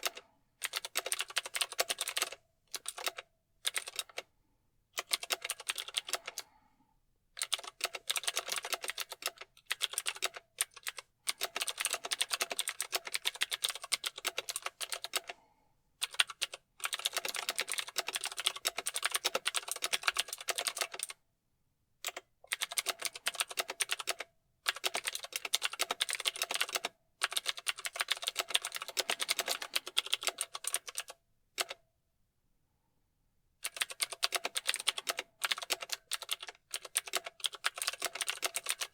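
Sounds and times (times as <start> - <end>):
mechanical keyboard typing: 0.0 - 4.2, 5.0 - 6.4, 7.4 - 15.4, 16.0 - 21.2, 22.0 - 31.8, 33.6 - 38.9.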